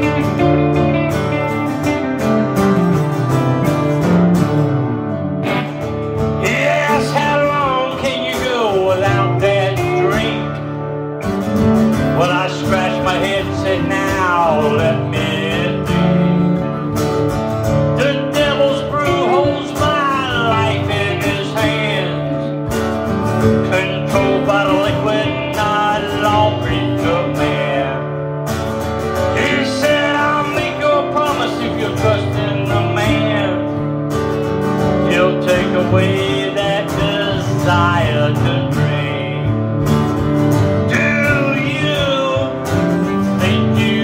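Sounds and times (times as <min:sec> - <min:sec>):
bending guitar melody: 0:00.0 - 0:44.0
strummed guitar chords: 0:00.0 - 0:44.0.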